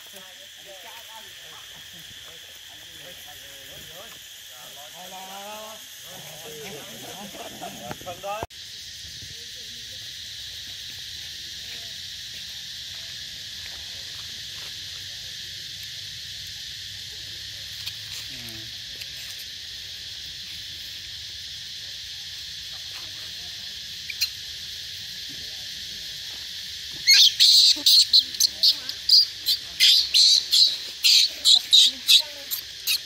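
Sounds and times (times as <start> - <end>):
insect chorus buzzing: 0.0 - 33.0.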